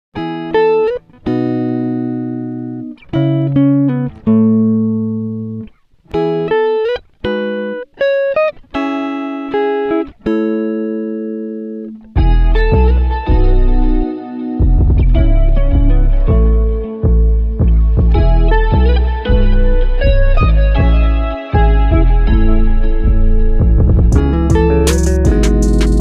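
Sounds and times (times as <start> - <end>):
plucked guitar-like music: 0.2 - 26.0.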